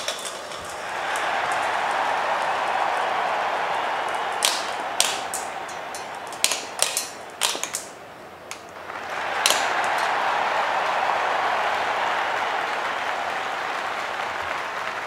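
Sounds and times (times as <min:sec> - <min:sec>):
crowd applause: 0:00.0 - 0:15.0.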